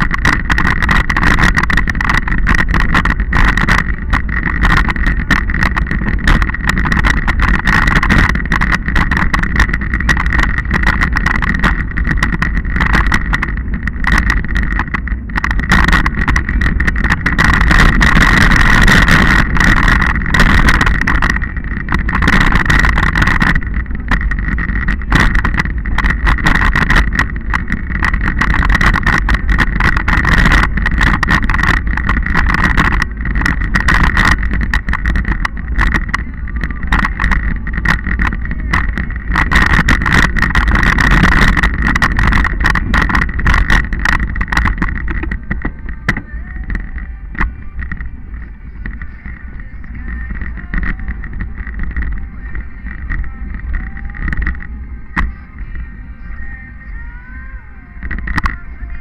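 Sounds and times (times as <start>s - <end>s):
camera rattling and knocking: 0.0s - 56.9s, 58.0s - 59.0s
wind on microphone: 0.0s - 59.0s.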